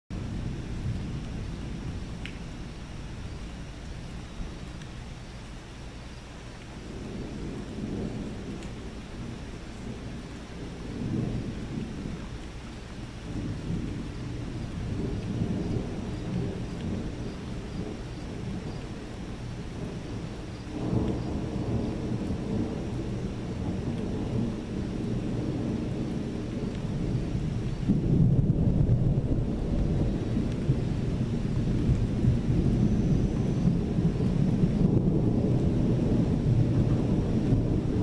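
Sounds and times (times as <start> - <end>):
rain hissing: 0.1 - 38.0
thunder rumbling: 0.1 - 38.0.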